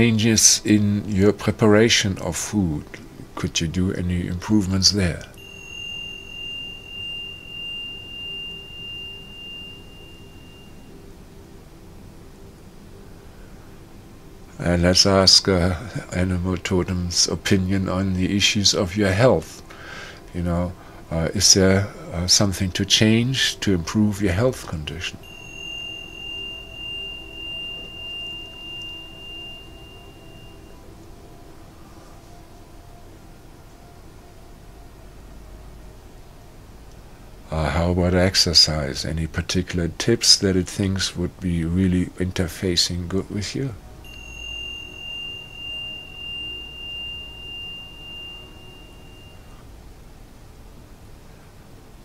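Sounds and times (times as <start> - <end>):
high pure ringing tone: 0.0 - 3.6, 4.2 - 52.0
low sustained drone: 0.0 - 51.8.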